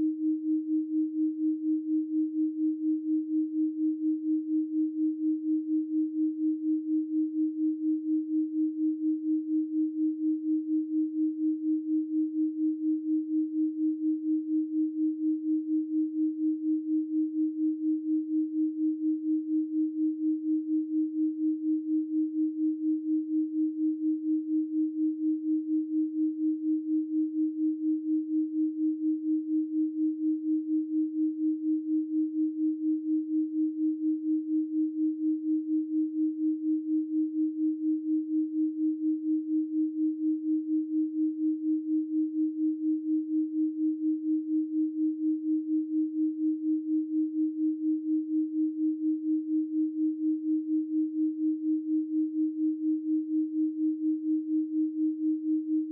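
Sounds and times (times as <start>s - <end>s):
pulsing pure sine tone: 0.0s - 55.9s.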